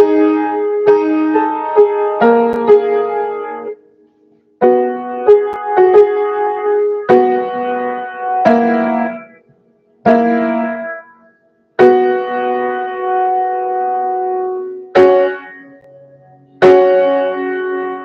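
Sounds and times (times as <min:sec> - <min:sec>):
piano chords: 0:00.0 - 0:04.0, 0:04.6 - 0:18.0.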